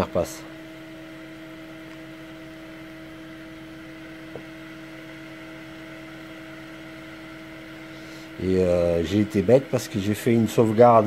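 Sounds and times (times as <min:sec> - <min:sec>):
laser engraver humming: 0:00.0 - 0:11.0.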